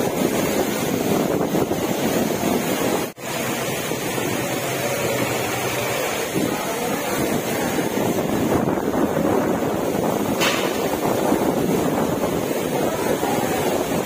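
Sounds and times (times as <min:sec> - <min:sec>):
gusting wind: 0:00.0 - 0:14.0
heavy rain pouring: 0:00.0 - 0:14.0.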